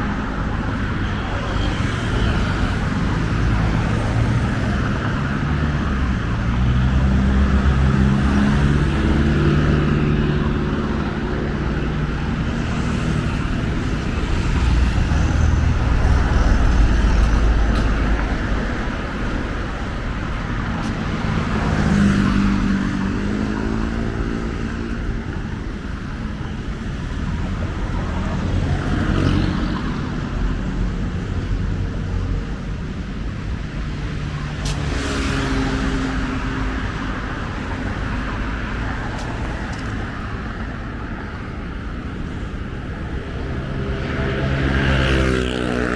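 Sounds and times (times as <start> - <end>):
low traffic rumble: 0.0 - 45.9
passing vehicle engines: 0.0 - 45.9.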